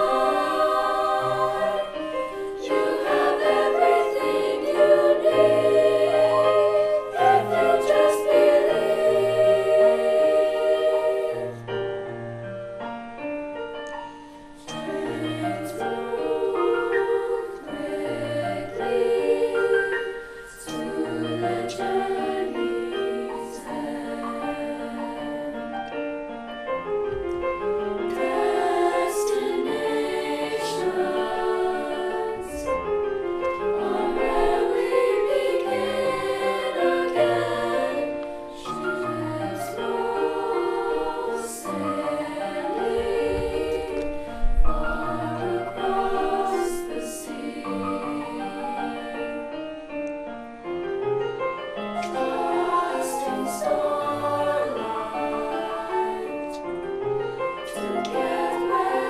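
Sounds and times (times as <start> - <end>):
school choir singing: 0.0 - 11.8, 14.6 - 25.9, 27.9 - 49.8, 52.0 - 59.0.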